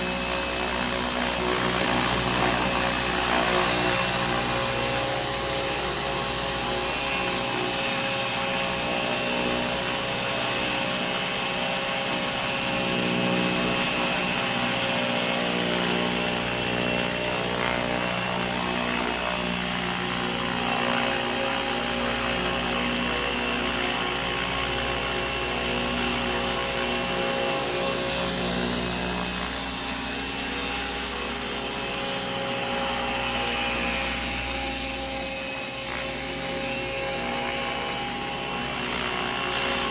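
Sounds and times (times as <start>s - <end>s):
helicopter rotor blades: 0.0s - 39.9s.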